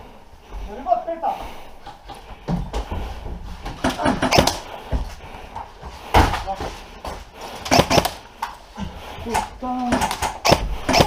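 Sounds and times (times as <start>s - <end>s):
sharp knocks and clatters: 1.8s - 11.0s.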